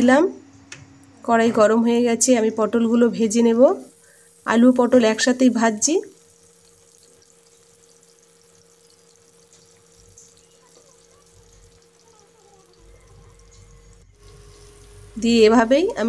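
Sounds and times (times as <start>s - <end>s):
steady low hum: 0.0s - 16.0s
vegetables sizzling in hot oil: 2.0s - 16.0s.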